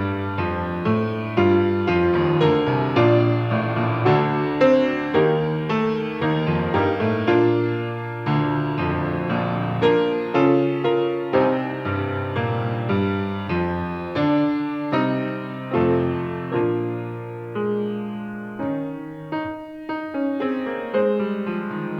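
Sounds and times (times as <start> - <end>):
slow gentle piano piece: 0.0 - 21.9.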